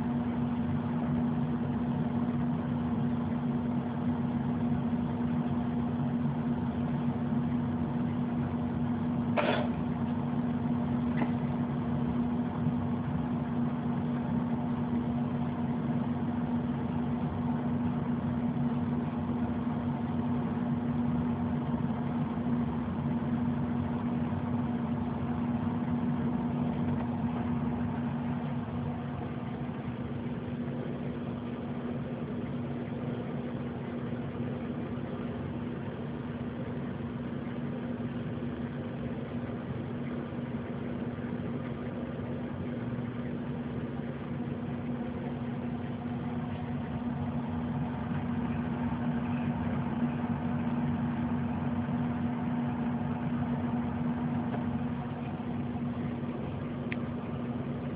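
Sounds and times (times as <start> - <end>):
motor humming: 0.0 - 57.9.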